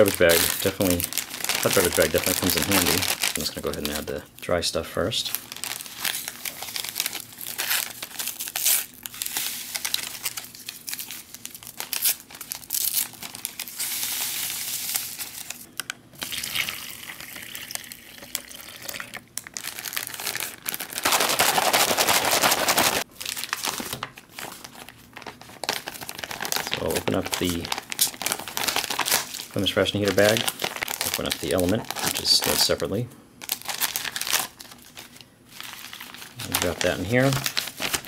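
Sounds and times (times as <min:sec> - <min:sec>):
plastic wrappers crinkling and tearing: 0:00.0 - 0:15.8, 0:17.7 - 0:38.0.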